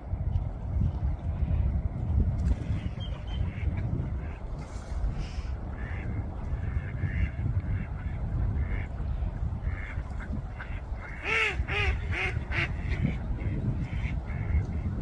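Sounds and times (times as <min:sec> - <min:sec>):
ducks quacking: 0:02.8 - 0:15.0.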